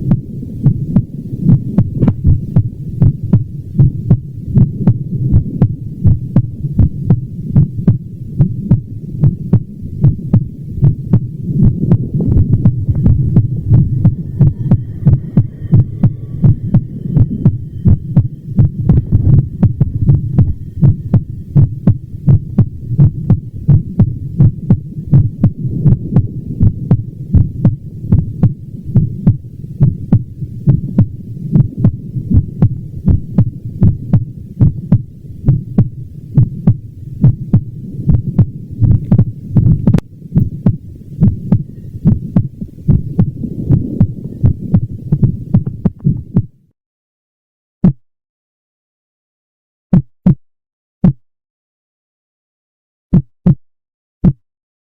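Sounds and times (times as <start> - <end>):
low heartbeats: 0.0 - 46.7, 49.9 - 50.4, 54.2 - 54.4
low hum: 0.0 - 46.7.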